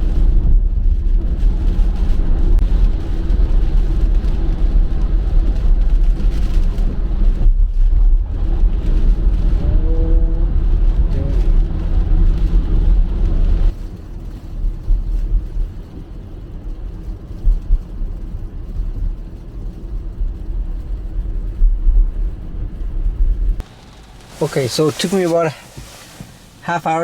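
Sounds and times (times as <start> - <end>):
tyre and road noise: 0.0 - 27.0.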